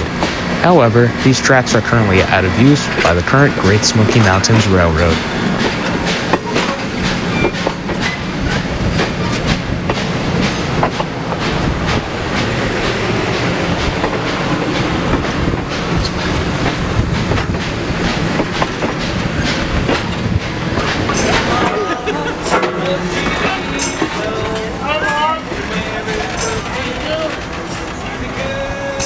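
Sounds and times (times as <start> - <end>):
low train rumble: 0.0 - 29.0
train wheels clicking on rail joints: 0.0 - 29.0.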